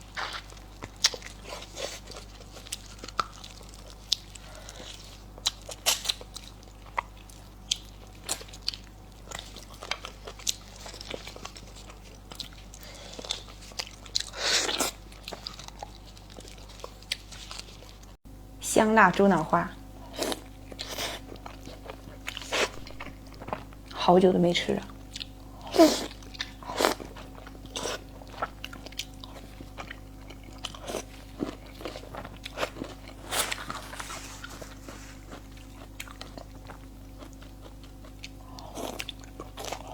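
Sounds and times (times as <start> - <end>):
person chewing and biting: 0.0 - 18.1, 20.1 - 23.9, 25.0 - 39.9.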